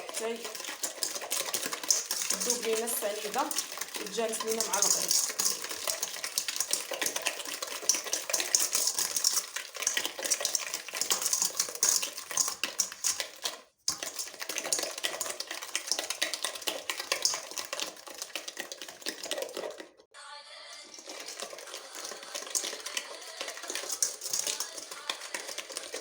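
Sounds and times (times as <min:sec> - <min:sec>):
utensil clicking against bowl: 0:00.0 - 0:19.6, 0:21.0 - 0:26.0
eggs being beaten in a bowl: 0:00.0 - 0:20.1, 0:20.7 - 0:26.0.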